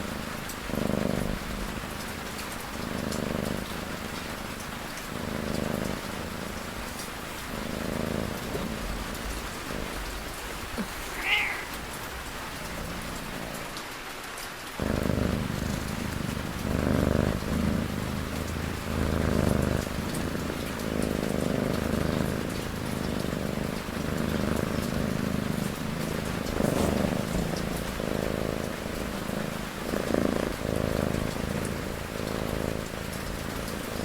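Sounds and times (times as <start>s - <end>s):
cat snoring purr: 0.0s - 13.8s, 14.8s - 34.0s
rain pattering: 0.0s - 34.0s.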